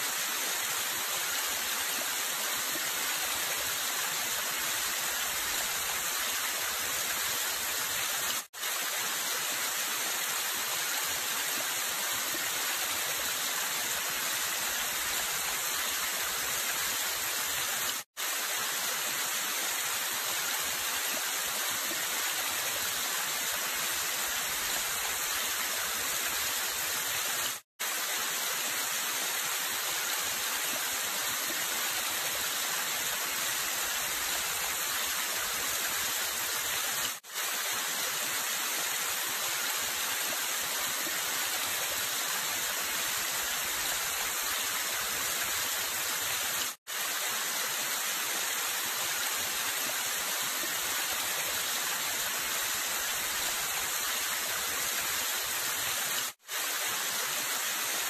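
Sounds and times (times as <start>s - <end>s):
waterfall hissing: 0.0s - 58.0s.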